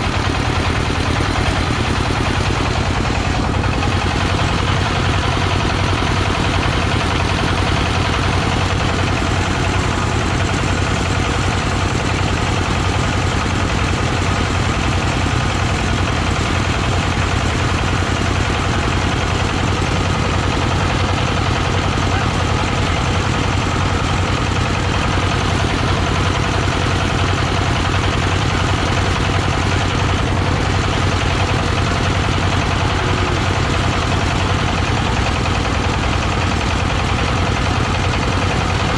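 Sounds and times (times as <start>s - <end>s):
threshing machine droning: 0.0s - 38.9s.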